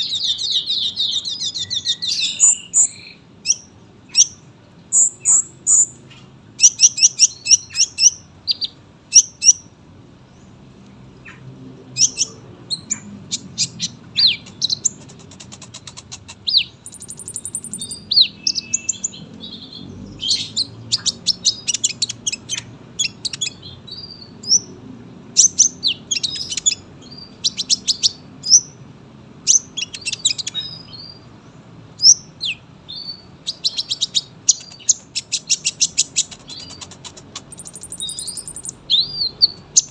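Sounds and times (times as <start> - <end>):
thin buzzy bird trill: 0.0 - 9.8, 11.2 - 24.7, 29.4 - 31.3, 32.0 - 39.9
sunbird chirping and trilling: 0.0 - 28.8, 29.4 - 39.9.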